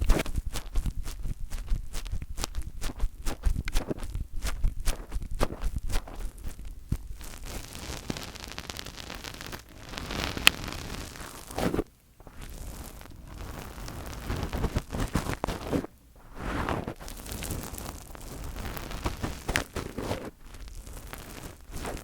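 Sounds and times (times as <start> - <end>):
fingers rubbing on microphone: 0.0 - 22.0.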